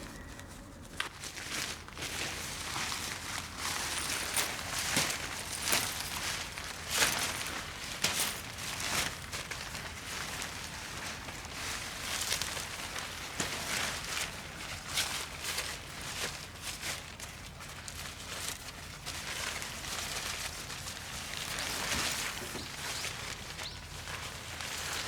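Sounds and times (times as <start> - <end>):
rustling and knocks handling gear: 0.1 - 25.0.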